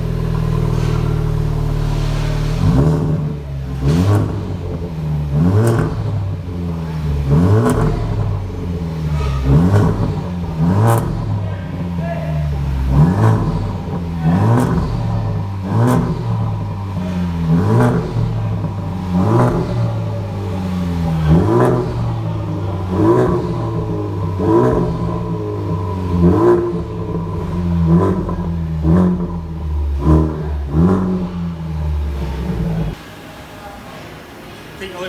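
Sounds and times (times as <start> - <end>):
engine idling: 0.0 - 33.0
car engine revving: 0.0 - 33.3.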